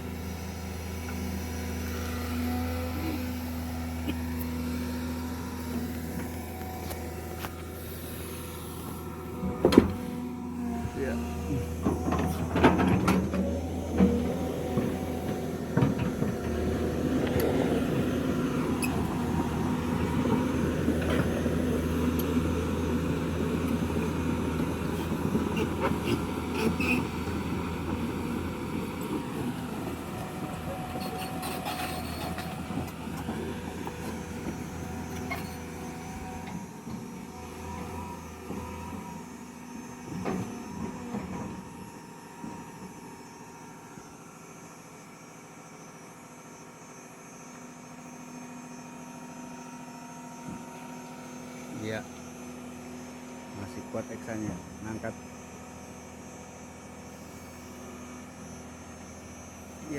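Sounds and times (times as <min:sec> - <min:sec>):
diesel engine under load: 0:00.0 - 0:59.9
hydraulic whine: 0:00.0 - 0:59.9.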